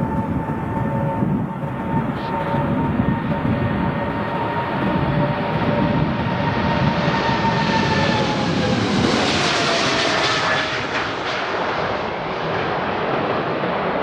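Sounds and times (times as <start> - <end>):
jet engines roaring past: 0.0 - 14.0.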